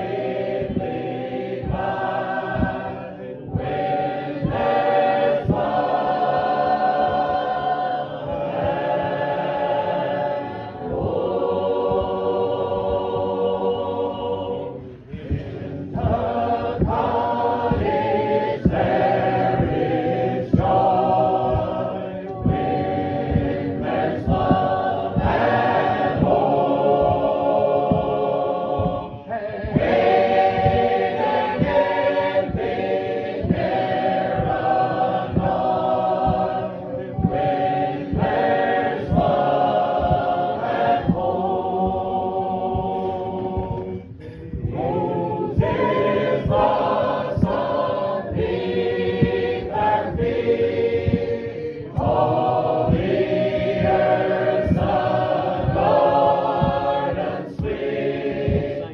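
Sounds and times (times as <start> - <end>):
congregation singing a hymn: 0.0 - 58.9.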